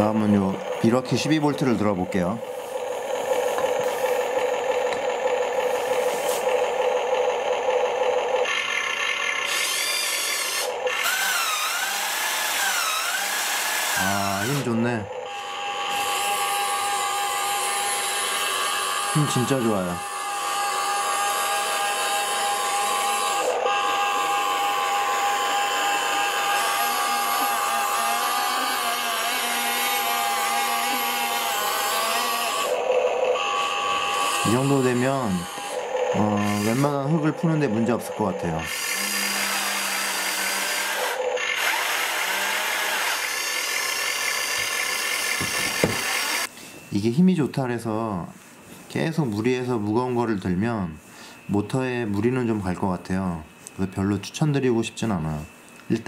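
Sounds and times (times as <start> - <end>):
toy excavator motors whining: 0.0 - 47.2.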